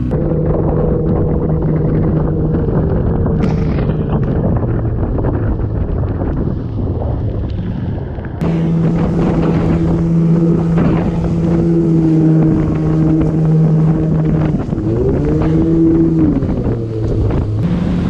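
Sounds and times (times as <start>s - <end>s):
outboard motor droning: 0.0s - 18.0s
wind buffeting: 0.0s - 18.0s.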